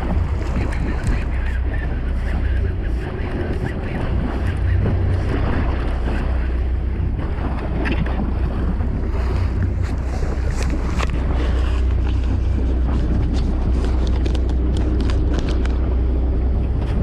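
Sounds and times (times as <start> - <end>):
waves against hull: 0.0 - 17.0
wind buffeting microphone: 0.0 - 17.0.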